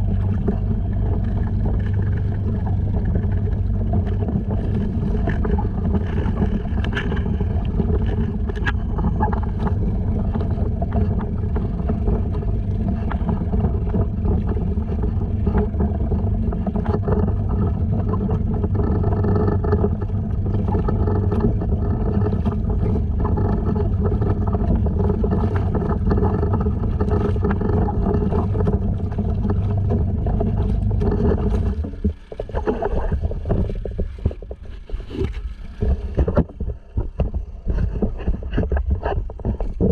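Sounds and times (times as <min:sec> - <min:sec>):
outboard motor running: 0:00.0 - 0:39.9
water noise: 0:00.0 - 0:39.9
wind noise: 0:00.0 - 0:39.9.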